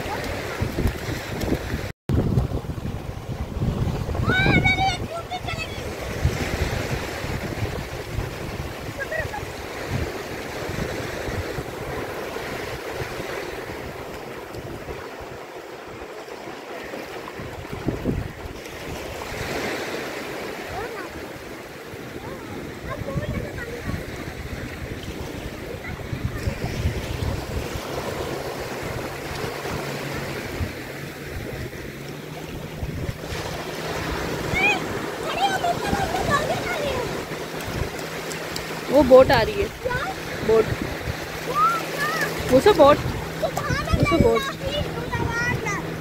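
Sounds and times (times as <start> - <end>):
small waves breaking on beach: 0.0 - 46.0
wind buffeting microphone: 0.0 - 46.0.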